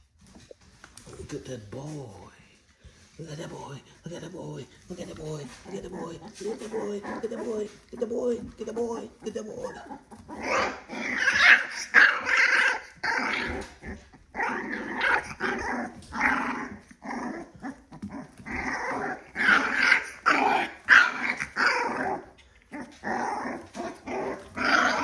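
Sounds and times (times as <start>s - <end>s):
puppies growling in play: 4.7s - 25.0s.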